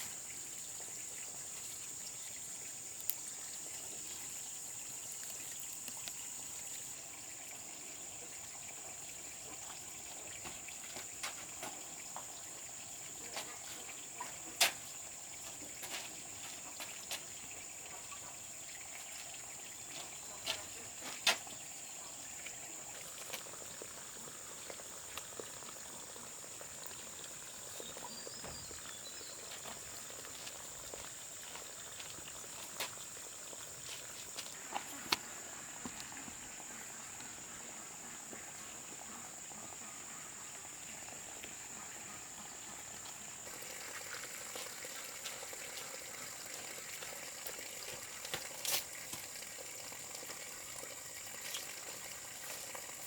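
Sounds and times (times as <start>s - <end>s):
high-pitched outdoor hiss: 0.0s - 53.0s.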